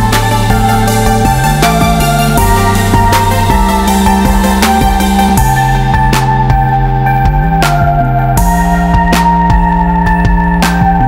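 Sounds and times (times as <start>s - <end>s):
bass line: 0.0s - 11.0s
synthesizer chords: 0.0s - 11.0s.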